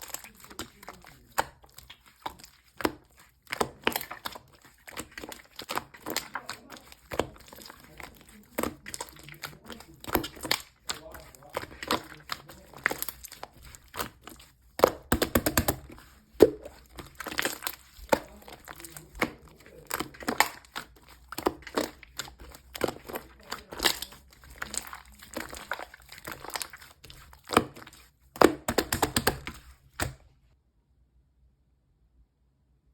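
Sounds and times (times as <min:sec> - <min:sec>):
slime squished by hand: 0:00.0 - 0:30.3.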